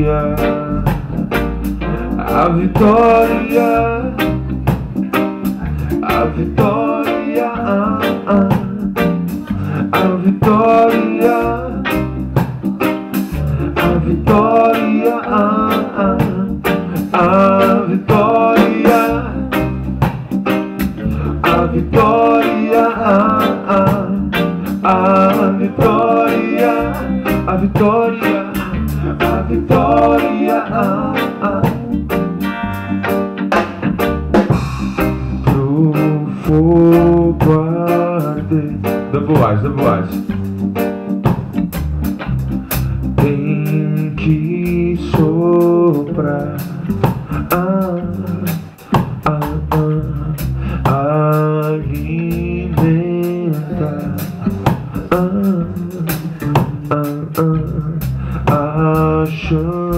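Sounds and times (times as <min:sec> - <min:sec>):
keyboard: 0:00.0 - 0:49.7
drum kit with steady low beat: 0:00.0 - 0:59.9
electric guitar: 0:00.0 - 0:59.9.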